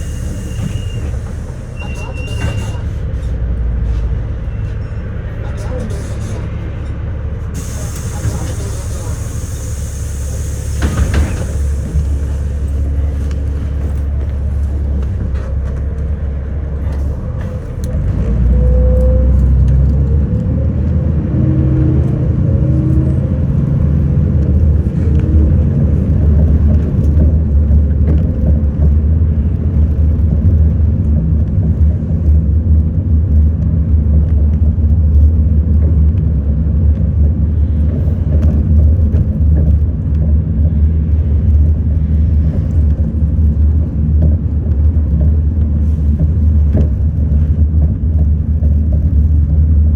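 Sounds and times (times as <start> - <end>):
bus engine rumble: 0.0 - 49.9.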